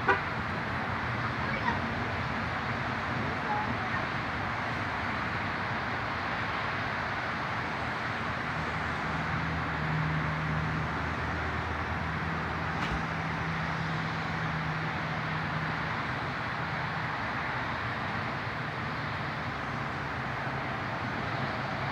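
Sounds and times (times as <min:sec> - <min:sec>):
outdoor traffic noise: 0:00.0 - 0:21.9.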